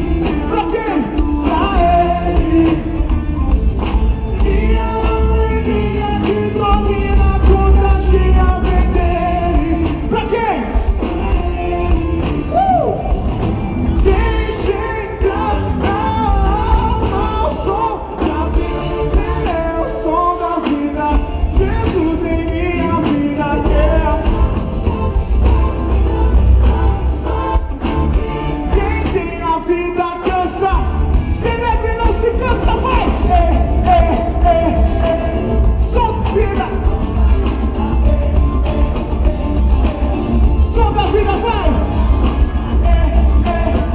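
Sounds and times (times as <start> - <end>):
live gospel band: 0.0 - 43.9
strong bass: 0.0 - 43.9
sung vocals: 0.0 - 43.9.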